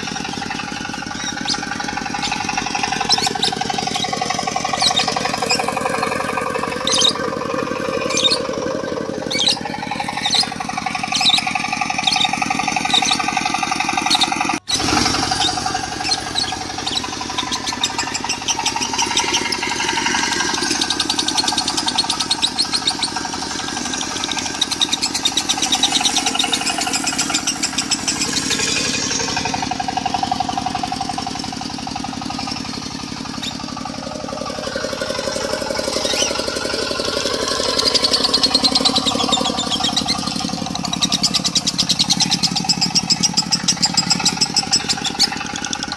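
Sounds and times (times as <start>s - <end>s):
lovebird chirping and trilling: 0.0s - 29.7s, 32.2s - 36.8s, 37.4s - 45.8s
diesel engine running: 0.0s - 45.9s.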